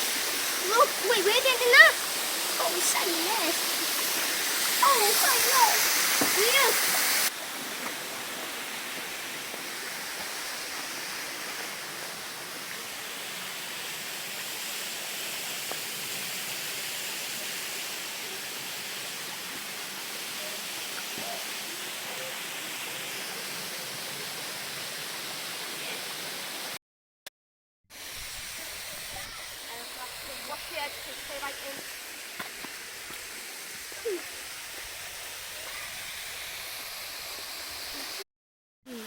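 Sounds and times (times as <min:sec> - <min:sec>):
waterfall rushing: 0:00.0 - 0:26.8, 0:28.0 - 0:38.2.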